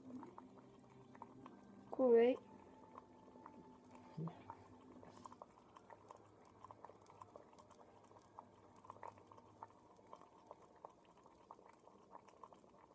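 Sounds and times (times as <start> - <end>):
water boiling with small pops: 0.0 - 12.9.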